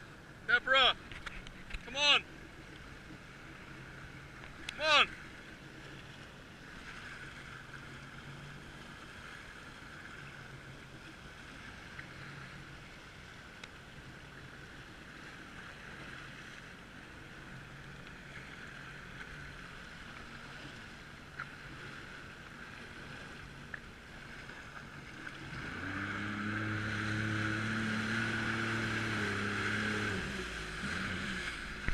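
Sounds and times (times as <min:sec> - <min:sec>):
jet ski engine running: 0:00.0 - 0:31.9
water noise: 0:00.0 - 0:31.9.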